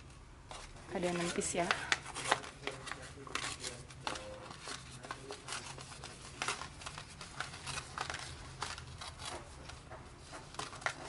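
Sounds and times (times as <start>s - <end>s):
paper rustling and crinkling: 0.5s - 11.0s.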